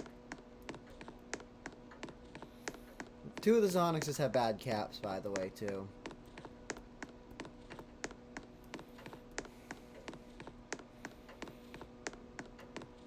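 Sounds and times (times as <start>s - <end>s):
ceiling fan ticking: 0.0s - 13.0s
faint steady hum: 0.0s - 13.0s.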